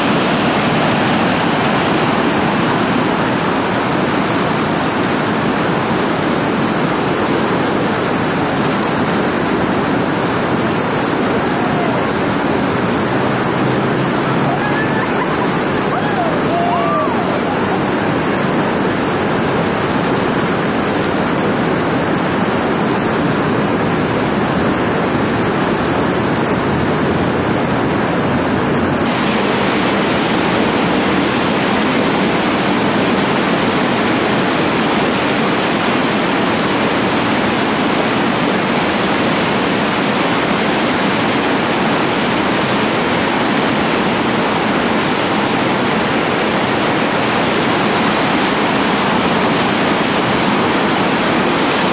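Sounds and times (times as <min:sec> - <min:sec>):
river rapids rushing: 0:00.0 - 0:51.9.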